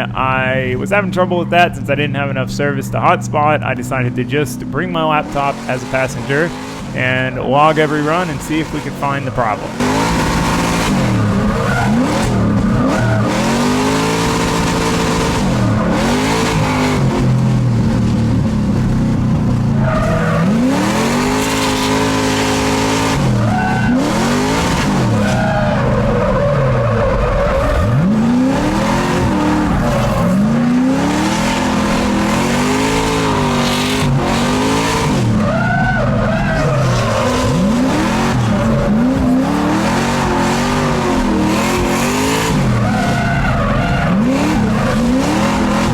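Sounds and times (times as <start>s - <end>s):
car engine revving: 0.0s - 45.9s
tyres skidding and squealing: 0.0s - 45.9s.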